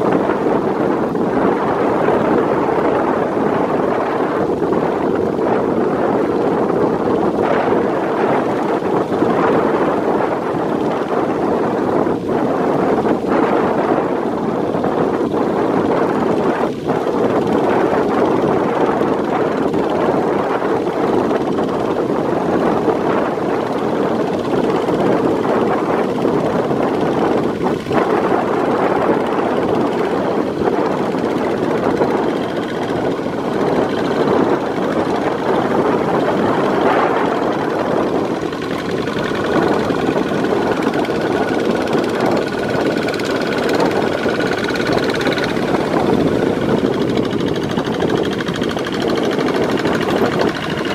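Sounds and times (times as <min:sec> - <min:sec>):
walking tractor diesel engines: 0:00.0 - 0:50.9
water churning: 0:00.0 - 0:50.9.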